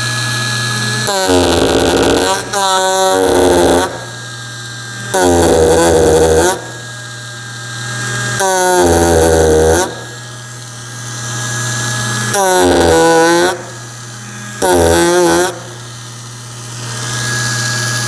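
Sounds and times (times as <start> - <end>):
power carver cutting wood: 0.0 - 18.0
power carver humming: 0.0 - 18.0.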